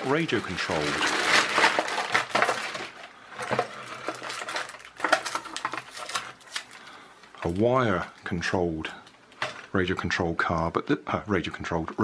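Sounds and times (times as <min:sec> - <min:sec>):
plastic bag rustling: 0:00.0 - 0:09.8.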